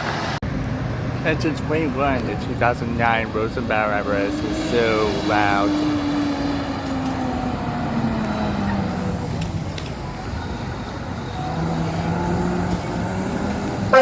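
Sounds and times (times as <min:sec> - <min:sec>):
heavy vehicles passing: 0:00.0 - 0:14.0
low engine tone: 0:00.0 - 0:14.0.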